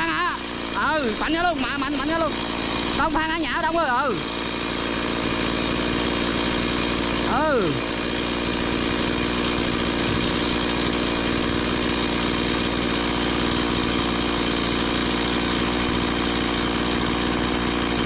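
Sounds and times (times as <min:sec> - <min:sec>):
chainsaw engine running steadily: 0:00.0 - 0:18.0.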